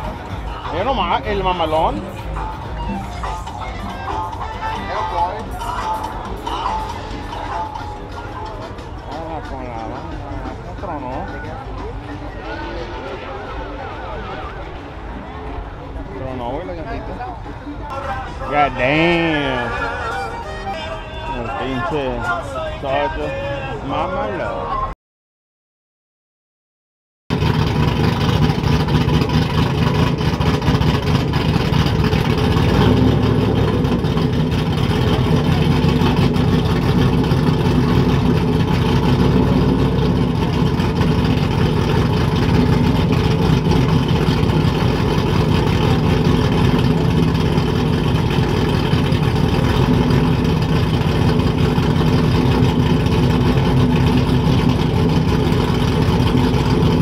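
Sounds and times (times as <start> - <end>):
truck engine running: 0.0 - 24.0, 27.3 - 57.0.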